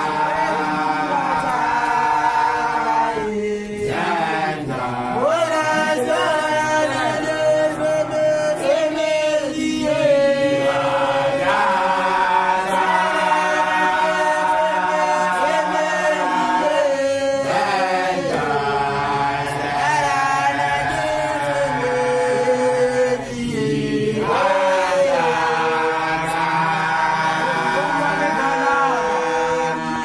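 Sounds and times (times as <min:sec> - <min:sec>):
group of voices chanting: 0:00.0 - 0:30.0.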